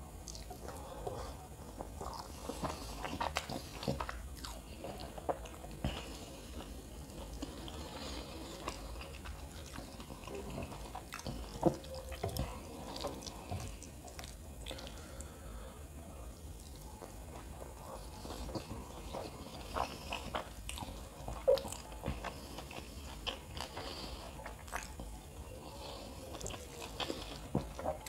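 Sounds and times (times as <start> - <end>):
chewing with wet mouth clicks: 0.2 - 15.3, 16.5 - 28.0.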